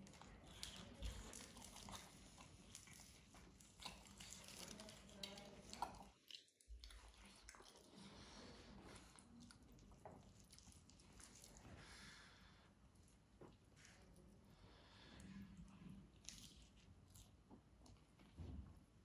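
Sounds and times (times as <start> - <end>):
chewing: 0.0 - 12.4, 13.0 - 18.4.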